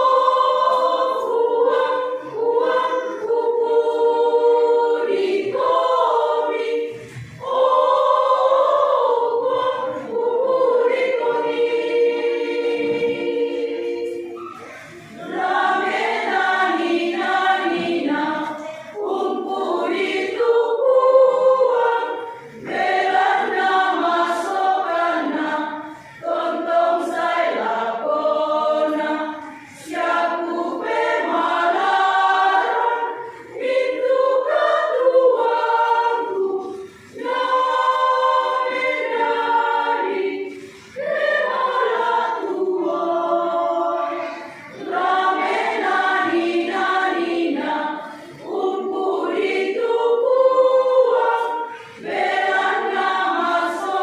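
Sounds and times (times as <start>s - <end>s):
women's choir singing: 0.0s - 54.0s.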